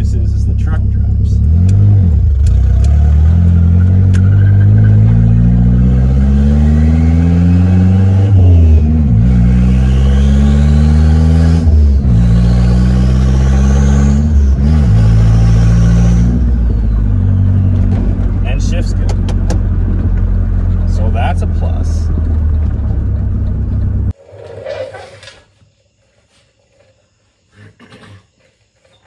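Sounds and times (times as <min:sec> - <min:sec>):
engine revving through gears: 0:00.0 - 0:24.2.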